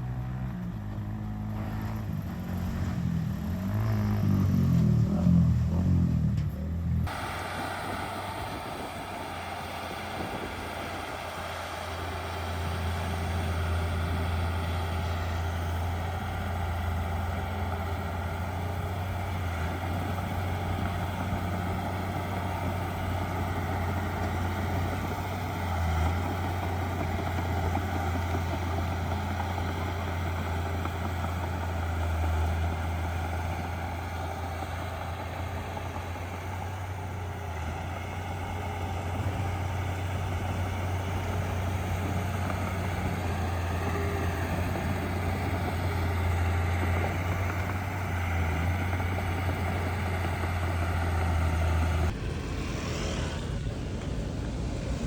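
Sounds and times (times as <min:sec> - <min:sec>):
diesel machine engine drone: 0:00.0 - 0:55.0.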